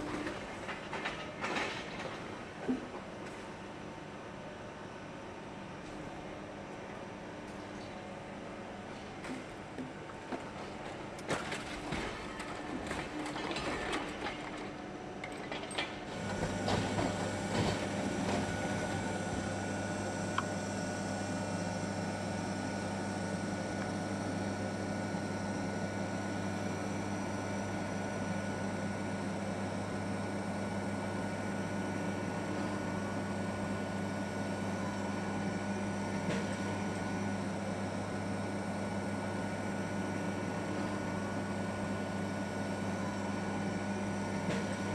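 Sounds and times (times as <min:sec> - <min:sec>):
low machine hum: 0:00.0 - 0:44.9.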